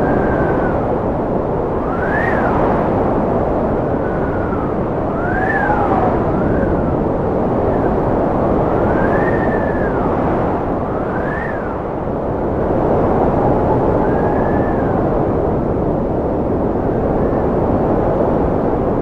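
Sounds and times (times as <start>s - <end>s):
high whistling wind howls: 0.0s - 19.0s
wind blowing: 0.0s - 19.0s.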